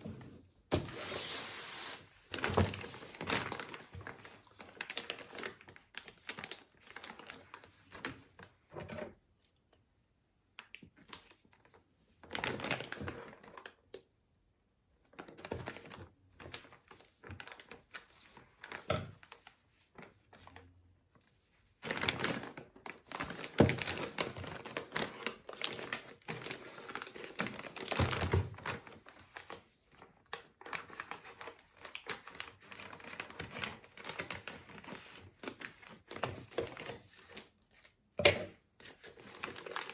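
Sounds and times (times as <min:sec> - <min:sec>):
plastic crinkling and rustling: 0:00.0 - 0:09.2, 0:10.9 - 0:14.1, 0:15.0 - 0:39.9.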